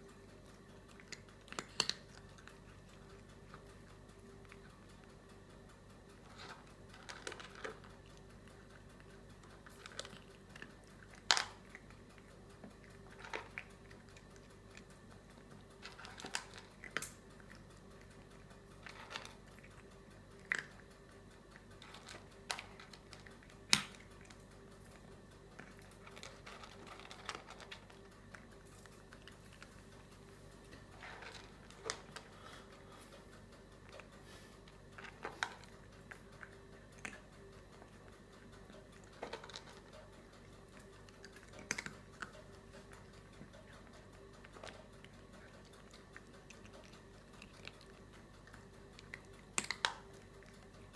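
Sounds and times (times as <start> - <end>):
cat chewing from plastic bowl: 0.0 - 50.9
faint steady hum: 0.0 - 50.9.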